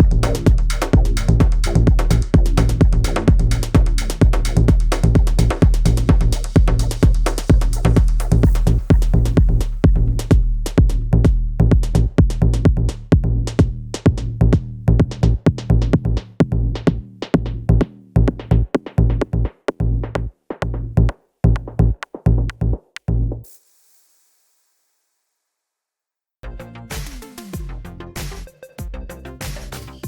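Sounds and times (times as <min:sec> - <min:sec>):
electronic music with drum beat: 0:00.0 - 0:23.1, 0:26.4 - 0:30.0.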